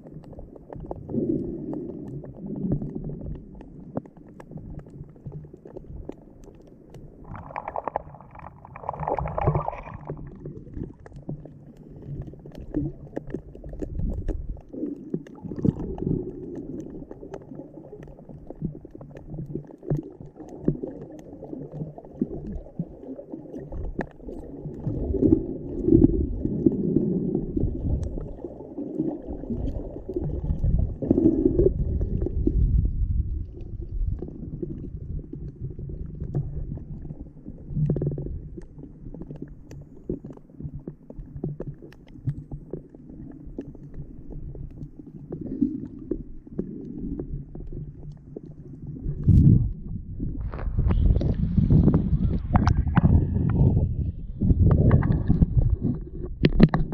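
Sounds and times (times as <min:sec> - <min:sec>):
muffled seawater rumbling and sloshing: 0:00.0 - 0:56.9
water gurgle: 0:00.0 - 0:56.9.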